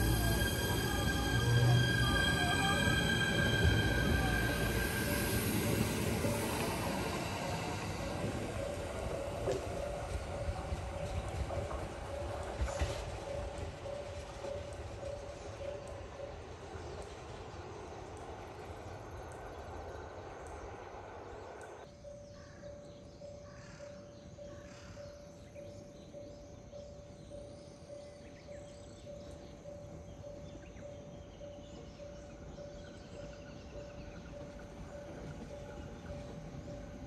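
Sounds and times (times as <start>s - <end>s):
train rumble: 0.0s - 23.4s, 24.2s - 37.0s.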